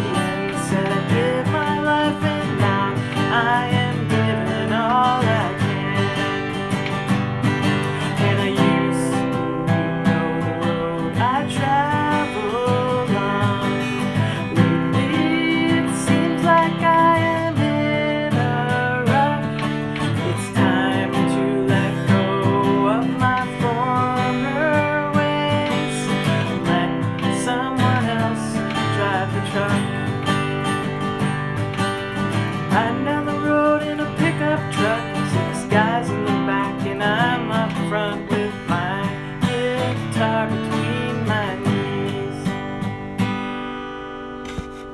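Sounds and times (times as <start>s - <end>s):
person singing: 0.0s - 31.0s, 32.2s - 42.9s
acoustic guitar strumming: 0.0s - 44.9s.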